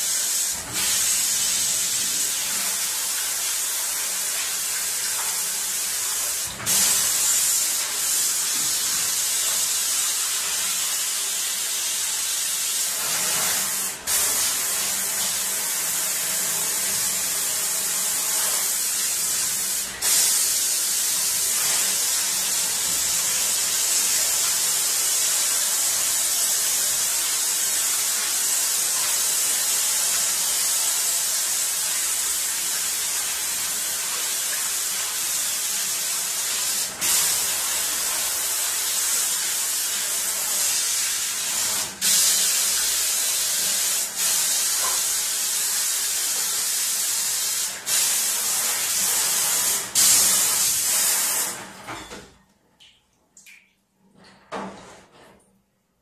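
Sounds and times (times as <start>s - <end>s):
water spray hissing on steel sink: 0.0s - 51.6s.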